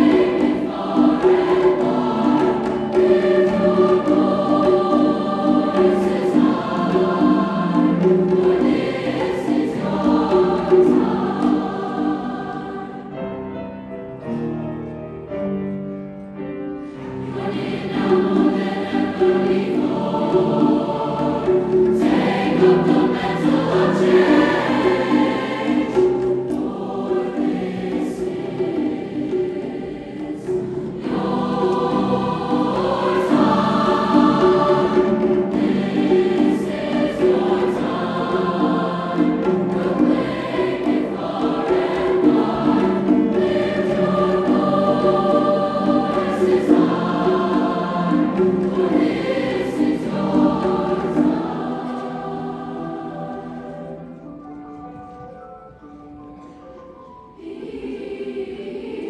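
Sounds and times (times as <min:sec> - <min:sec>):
choir singing: 0:00.0 - 0:59.0
piano accompaniment: 0:00.0 - 0:59.0.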